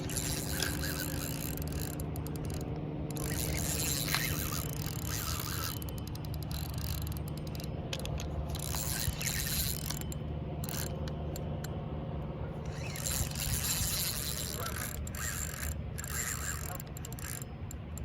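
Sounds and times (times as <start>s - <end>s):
fishing reel ratcheting clicks: 0.0s - 11.4s, 12.7s - 18.0s.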